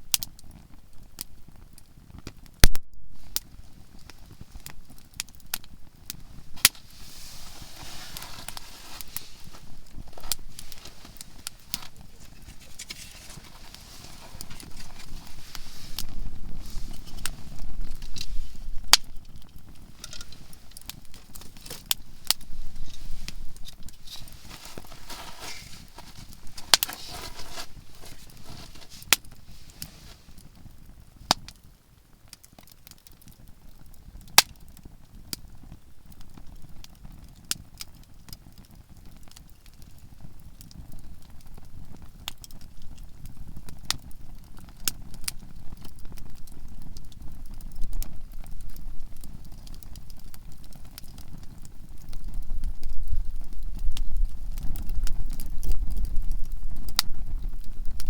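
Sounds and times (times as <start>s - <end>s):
campfire crackling: 0.0s - 58.0s
sharp pops from burning logs: 0.1s - 58.0s.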